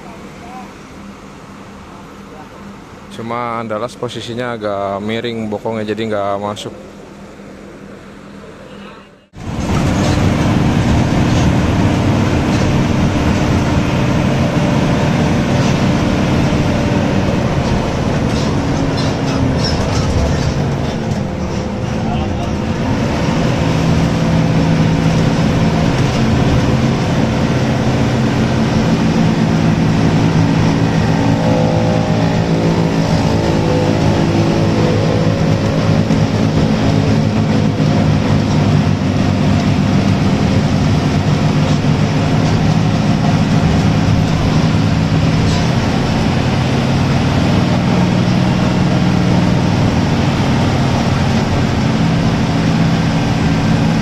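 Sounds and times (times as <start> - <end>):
bus engine running: 0.0 - 54.0
road and tyre noise: 0.0 - 54.0.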